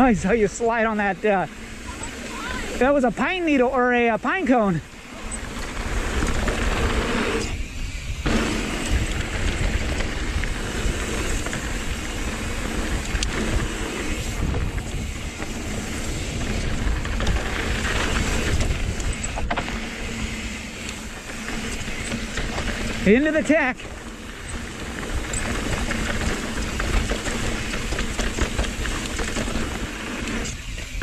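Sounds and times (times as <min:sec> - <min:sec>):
bike tyres rolling on dirt trail: 0:00.0 - 0:31.0
wind buffeting microphone: 0:04.8 - 0:31.0.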